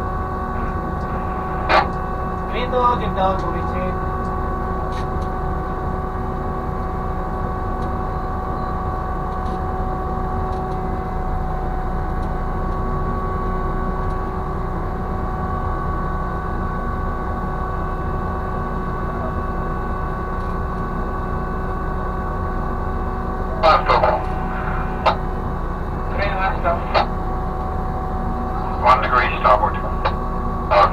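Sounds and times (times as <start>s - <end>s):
crane machinery low rumble: 0.0s - 30.9s
steady whining tones: 0.0s - 30.9s.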